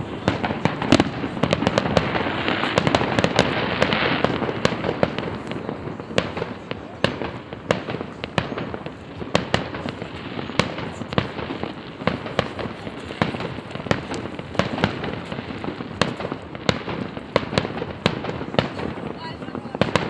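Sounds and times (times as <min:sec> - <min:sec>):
distant firework bursts: 0:00.0 - 0:20.0
firework bangs: 0:00.0 - 0:20.0.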